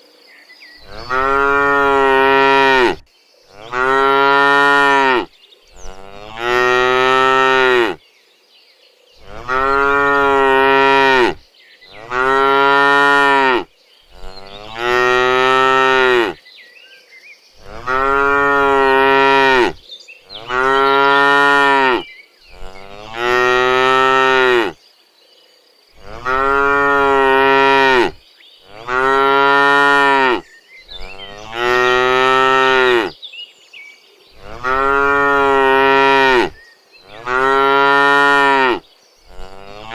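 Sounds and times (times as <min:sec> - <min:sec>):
cattle mooing: 0:00.8 - 0:08.0, 0:09.2 - 0:16.4, 0:17.6 - 0:19.8, 0:20.4 - 0:24.8, 0:26.0 - 0:30.4, 0:31.0 - 0:33.1, 0:34.4 - 0:39.9.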